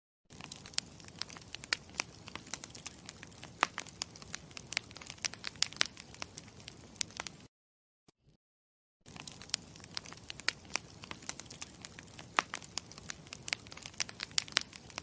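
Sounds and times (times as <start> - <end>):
campfire crackling: 0.3 - 7.5, 9.1 - 15.0.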